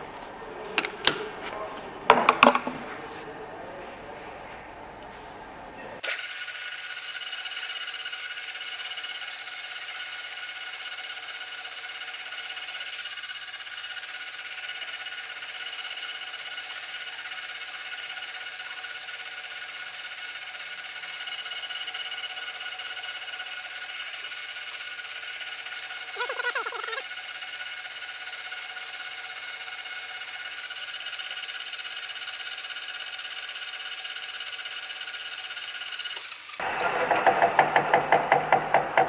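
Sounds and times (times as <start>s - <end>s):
metal lathe whine: 6.1s - 26.2s, 27.1s - 39.0s.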